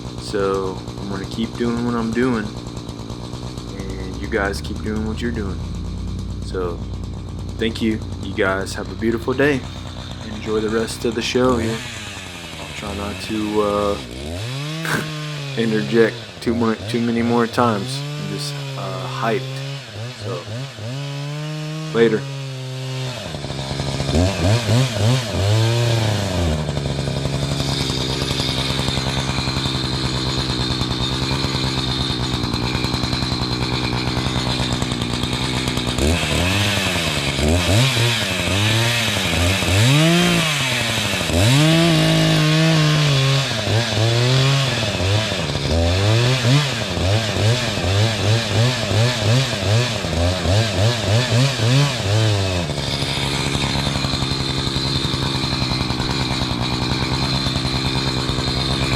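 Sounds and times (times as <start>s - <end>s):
chainsaw revving: 0.0s - 58.9s.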